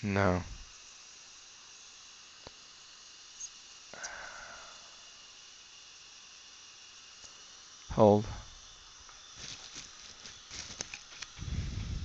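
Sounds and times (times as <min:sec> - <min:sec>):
dental suction hiss: 0:00.0 - 0:12.0.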